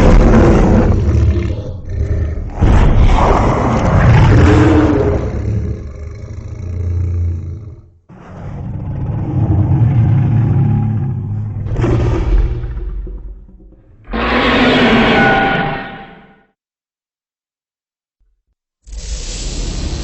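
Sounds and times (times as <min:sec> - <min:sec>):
deep monster roar: 0:00.0 - 0:16.4.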